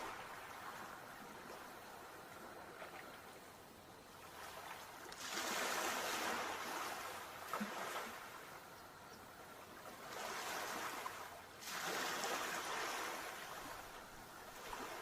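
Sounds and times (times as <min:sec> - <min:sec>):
sea waves washing on shore: 0:00.0 - 0:03.5, 0:04.1 - 0:08.8, 0:09.4 - 0:15.0.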